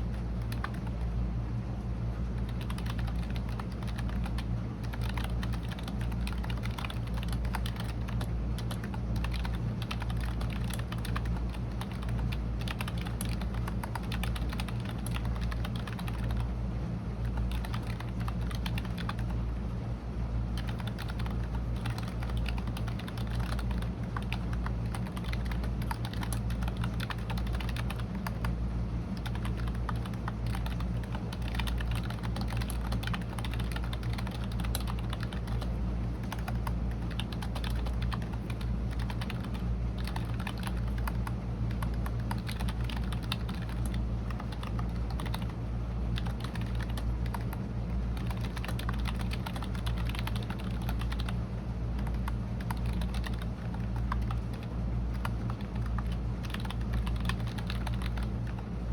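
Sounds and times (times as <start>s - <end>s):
typing on keyboard: 0.0s - 1.2s, 2.4s - 16.6s, 17.2s - 19.4s, 20.5s - 58.8s.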